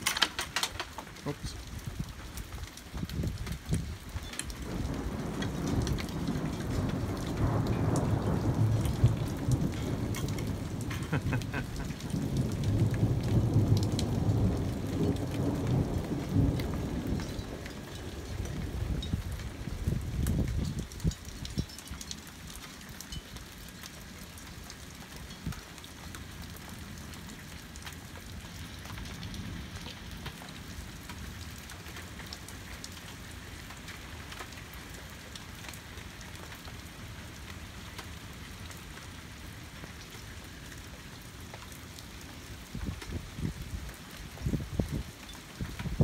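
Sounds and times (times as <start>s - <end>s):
steady rain: 0.0s - 46.0s.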